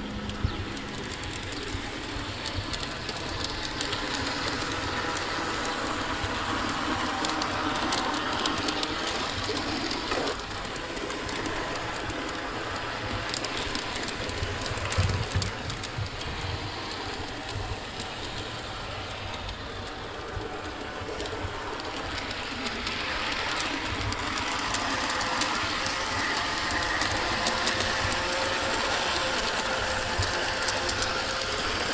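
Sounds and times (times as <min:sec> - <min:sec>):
model train motor whirring: 0:00.0 - 0:31.9
wheels clicking over rails: 0:00.0 - 0:31.9.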